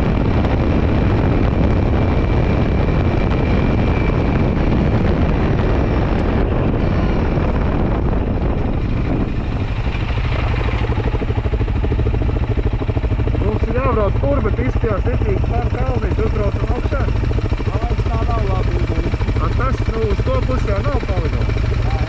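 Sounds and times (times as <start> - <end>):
dirt bike engine: 0.0 - 22.0
wind noise on microphone: 0.0 - 22.0.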